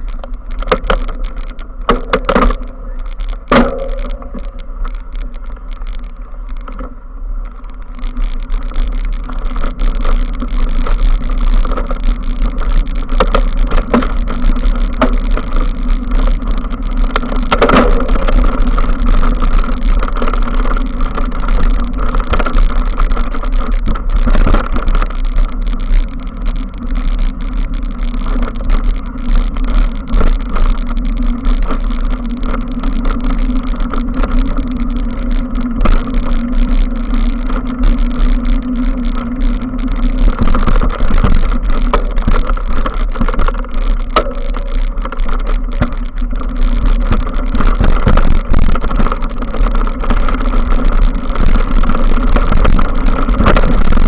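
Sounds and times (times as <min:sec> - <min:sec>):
bike knocking and rattling: 0:00.0 - 0:54.0
bike rumbling on dirt trail: 0:00.0 - 0:54.0.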